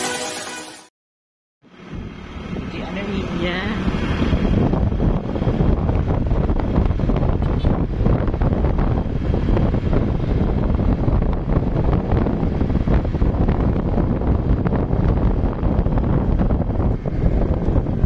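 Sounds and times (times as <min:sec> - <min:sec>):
vehicle engine and road noise: 0:01.6 - 0:18.0
wind buffeting microphone: 0:01.7 - 0:18.0.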